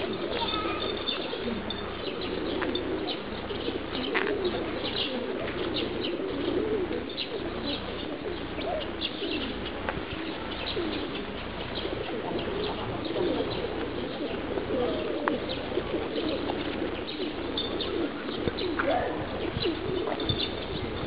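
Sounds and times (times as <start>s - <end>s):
pigeons cooing: 0.0s - 21.0s
small birds chirping: 0.0s - 21.0s.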